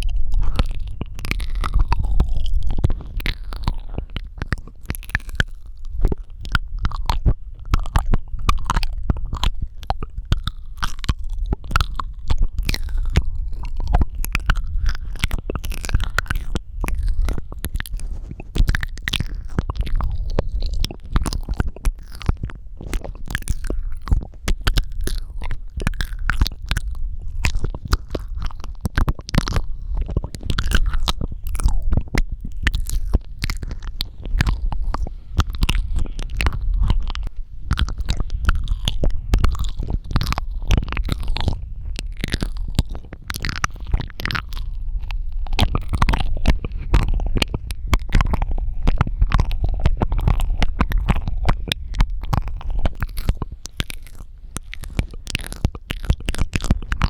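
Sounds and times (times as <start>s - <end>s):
low rumble: 0.0s - 57.0s
wet mouth clicks and smacks: 0.0s - 57.0s.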